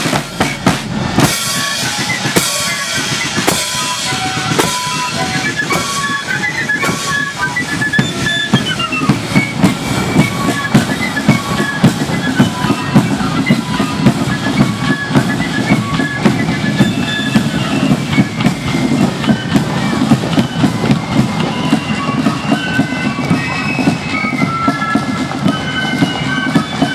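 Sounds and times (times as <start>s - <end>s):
flute melody: 0.0s - 26.9s
snare and bass drumming: 0.0s - 26.9s.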